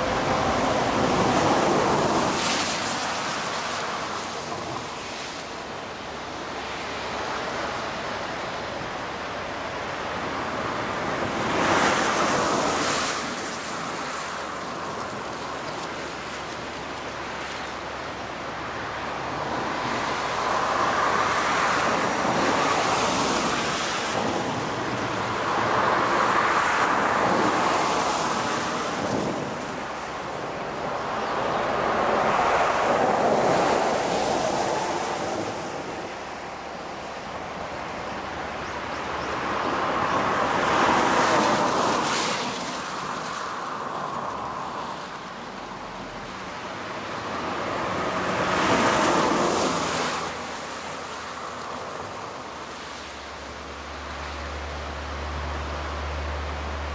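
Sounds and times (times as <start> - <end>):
wind gusting: 0.0 - 53.8.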